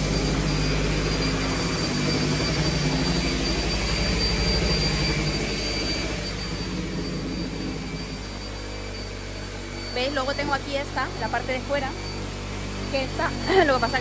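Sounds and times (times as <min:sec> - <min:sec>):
high whine: 0:00.0 - 0:14.0
power tool trimming: 0:00.0 - 0:14.0.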